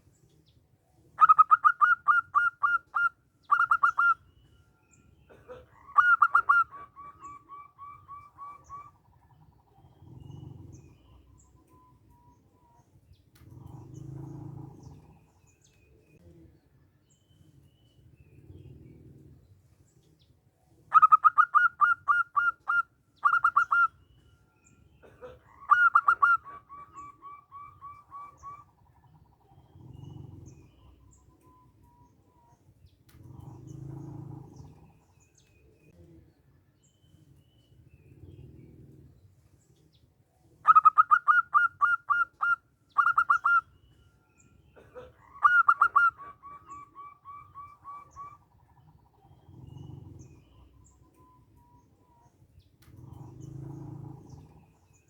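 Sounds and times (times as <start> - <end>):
dove singing: 0.0 - 55.0.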